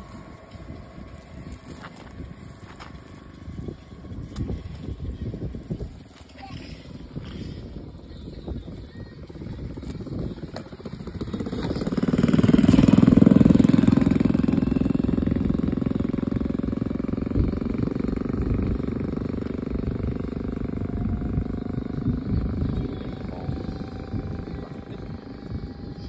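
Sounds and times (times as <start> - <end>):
engine running with rapid pulse: 0.0 - 26.0.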